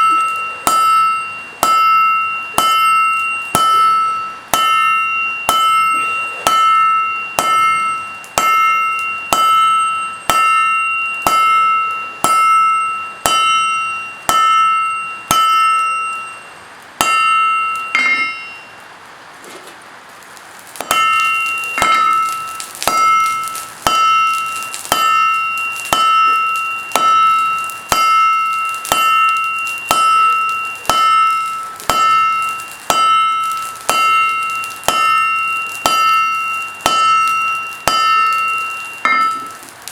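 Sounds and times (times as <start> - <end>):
forging hammer on steel: 0.0 - 18.8, 20.8 - 39.9
metallic ring: 0.0 - 18.9, 20.8 - 39.9
steady hiss: 0.0 - 39.9.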